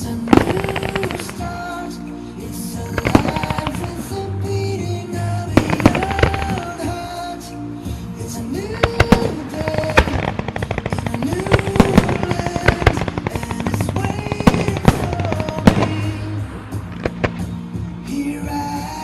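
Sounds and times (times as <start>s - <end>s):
fireworks bangs: 0.0s - 18.8s
music: 0.0s - 19.0s.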